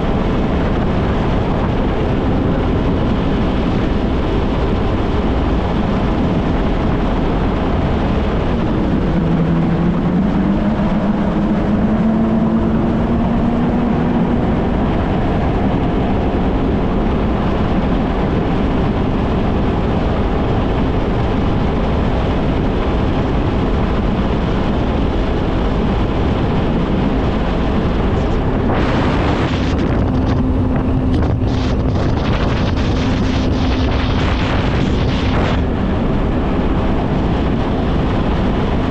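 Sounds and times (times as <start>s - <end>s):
jet ski engine running: 0.0s - 38.9s
wind rushing over microphone: 0.0s - 38.9s.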